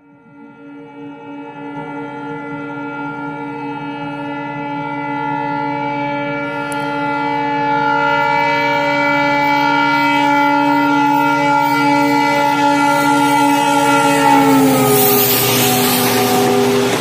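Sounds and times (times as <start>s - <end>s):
locomotive horn blast: 0.0s - 17.0s.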